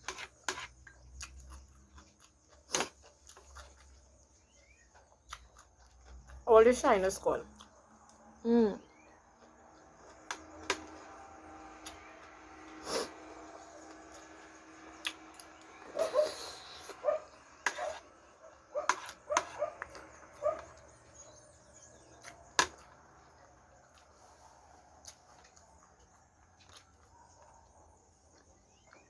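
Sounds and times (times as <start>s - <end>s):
chewing and lip-smacking: 0.0s - 6.4s, 7.5s - 29.0s.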